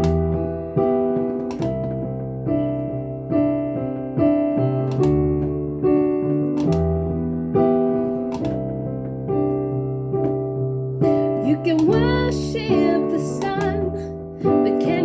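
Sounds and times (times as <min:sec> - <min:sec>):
piano chords with bass note: 0:00.0 - 0:15.0.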